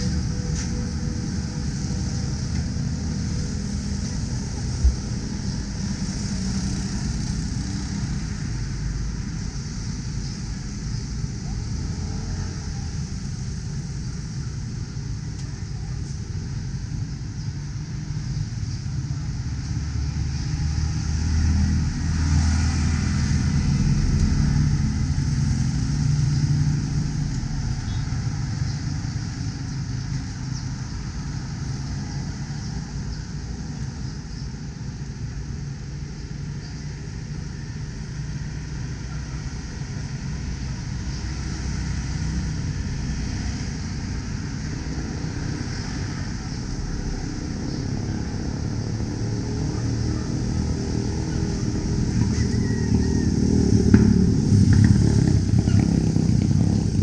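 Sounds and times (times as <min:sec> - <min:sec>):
highway traffic rumble: 0:00.0 - 0:57.0.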